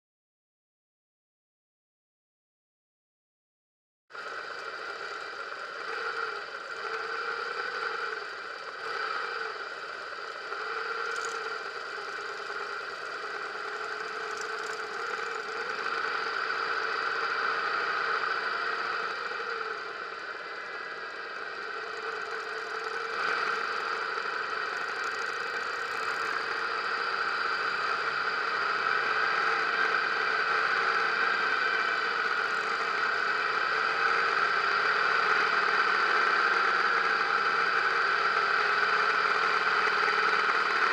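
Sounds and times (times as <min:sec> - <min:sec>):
motorcycle engine running: 0:04.2 - 0:40.9.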